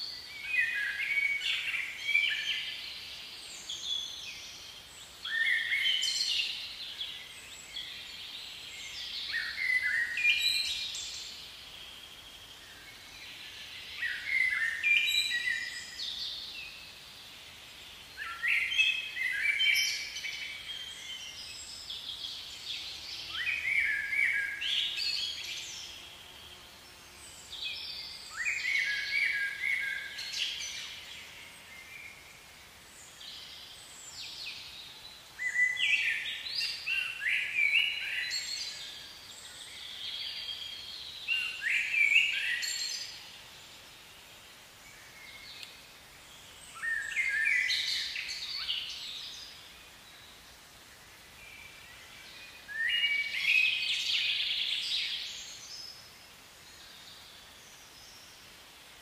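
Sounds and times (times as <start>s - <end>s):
faint outdoor hiss: 0.0s - 59.0s
songbird chirping: 0.0s - 59.0s.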